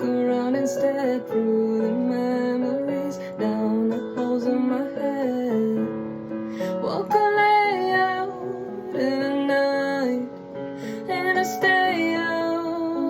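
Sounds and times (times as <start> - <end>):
piano accompaniment: 0.0 - 13.0
woman singing: 0.0 - 13.0.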